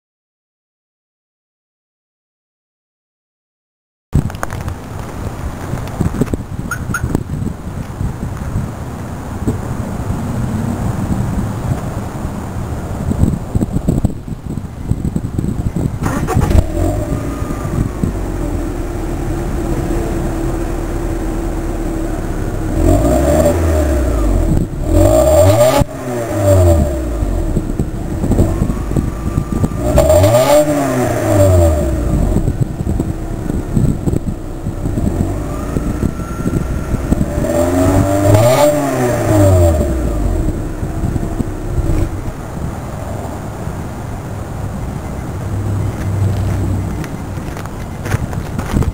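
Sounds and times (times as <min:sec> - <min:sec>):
car engine idling and revving: 0:04.2 - 0:48.9.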